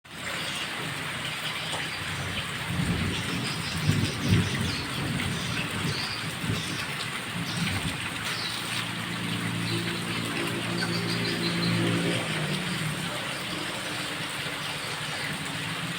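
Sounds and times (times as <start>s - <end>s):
heavy rain falling: 0.1s - 15.9s.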